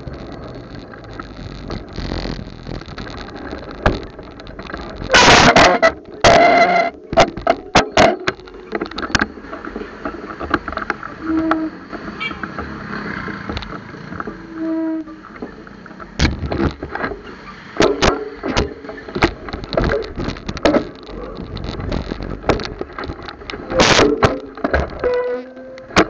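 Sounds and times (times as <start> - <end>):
sharp knocks and rattles: 0.0 - 14.5, 15.2 - 26.0
road traffic rumble: 0.0 - 26.0.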